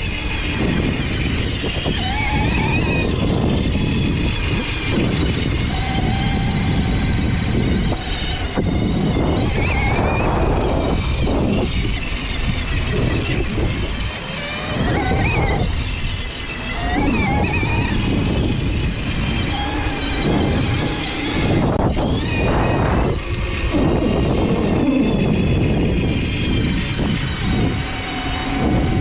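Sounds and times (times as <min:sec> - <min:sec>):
electric bike motor whining: 0:00.0 - 0:29.0
wind rush on microphone: 0:00.0 - 0:29.0.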